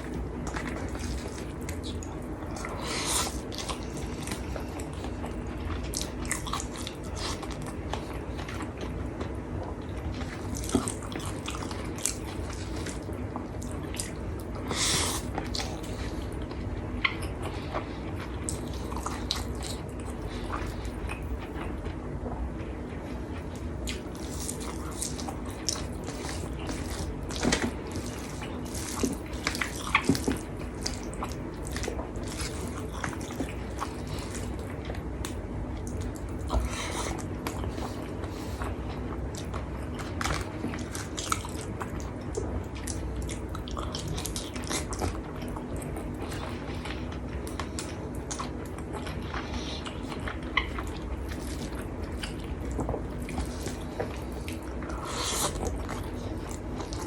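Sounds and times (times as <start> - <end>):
person chewing and crunching: 0.0 - 57.0
steady low hum: 0.0 - 57.0.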